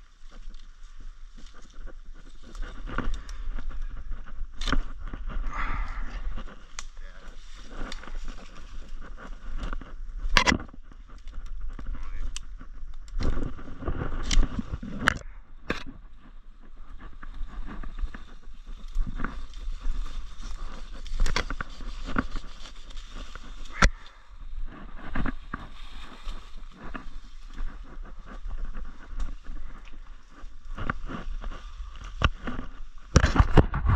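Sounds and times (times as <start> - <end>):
leaves and brush rustling: 0.0 - 33.7
branches snapping under loppers: 0.1 - 16.2, 17.0 - 33.7.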